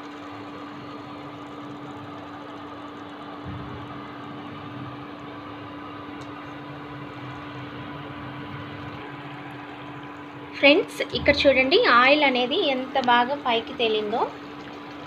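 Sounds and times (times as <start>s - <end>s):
mechanical hum with hiss: 0.0s - 15.0s.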